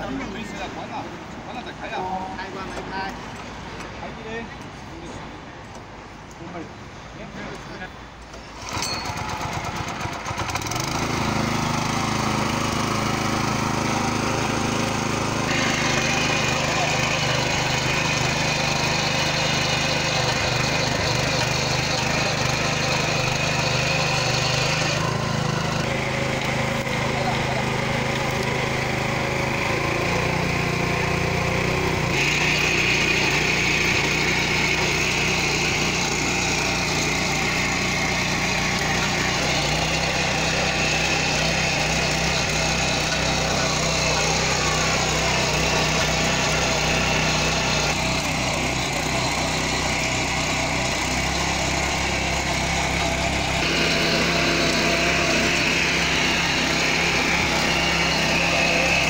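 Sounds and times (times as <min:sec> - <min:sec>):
power tiller engine running: 0:08.4 - 0:59.0.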